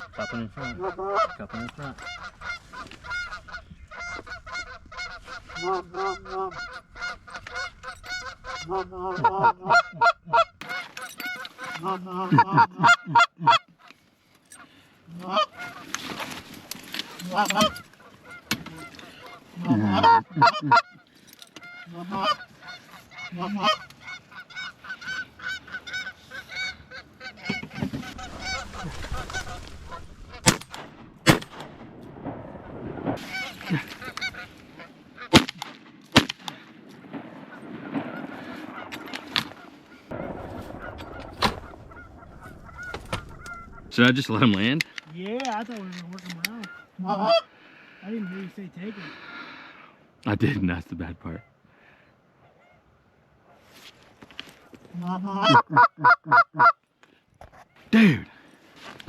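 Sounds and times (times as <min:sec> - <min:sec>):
geese honking and clucking: 0:00.0 - 0:31.4, 0:32.5 - 0:49.9, 0:51.2 - 0:53.1, 0:54.6 - 0:57.9.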